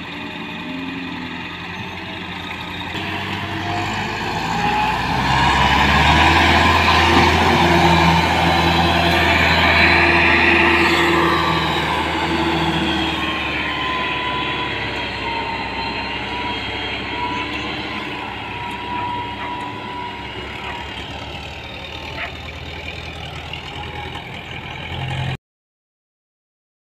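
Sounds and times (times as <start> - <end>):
tractor engine running: 0.0 - 25.4.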